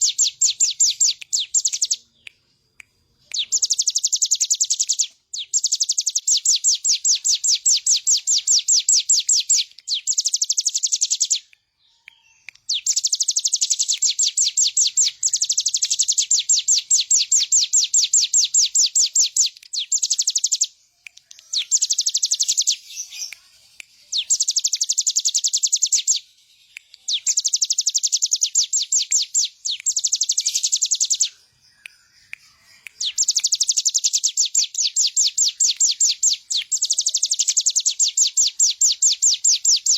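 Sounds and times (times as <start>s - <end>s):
bird singing fast trills: 0.0s - 2.4s, 3.2s - 23.4s, 24.0s - 39.9s.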